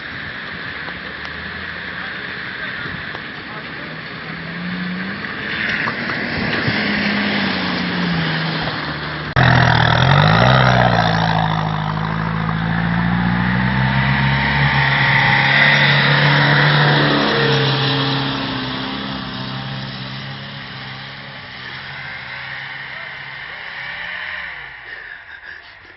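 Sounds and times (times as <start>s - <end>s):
motorcycle engine revving: 0.0s - 25.6s.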